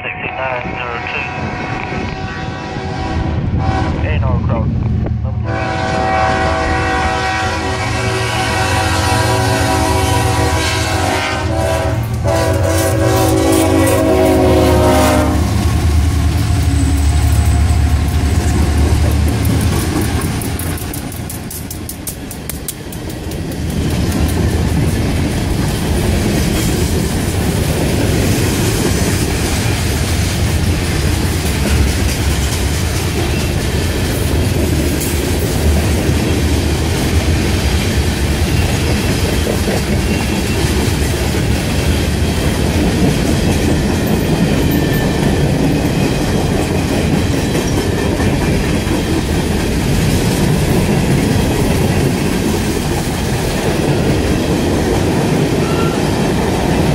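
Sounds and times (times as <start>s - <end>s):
freight train wheels clacking: 6.1s - 56.9s.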